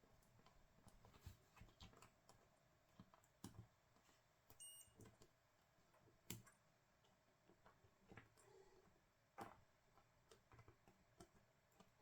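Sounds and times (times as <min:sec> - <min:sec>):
faint clicks and taps: 0:00.2 - 0:12.0.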